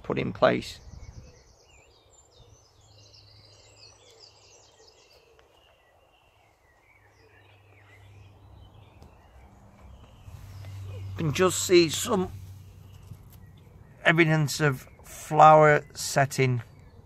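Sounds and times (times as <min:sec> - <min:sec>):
birds chirping and warbling: 0:00.0 - 0:17.0.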